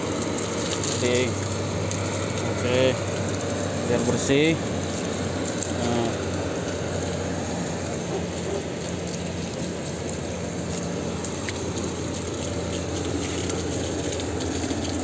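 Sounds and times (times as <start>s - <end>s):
low machine hum: 0.0s - 15.0s
water splashing and running: 0.0s - 15.0s.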